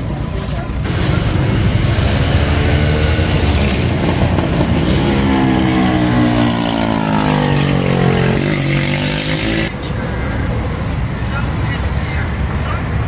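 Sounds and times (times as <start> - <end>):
traffic rumble: 0.0 - 13.0
vehicle engine passing: 0.6 - 13.0.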